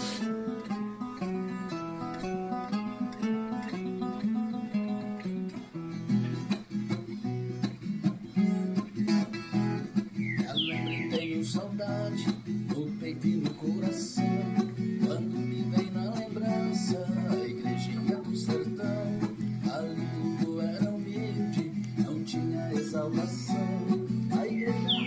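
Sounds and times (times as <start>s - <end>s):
folk guitar plucked and strummed: 0.0s - 25.0s.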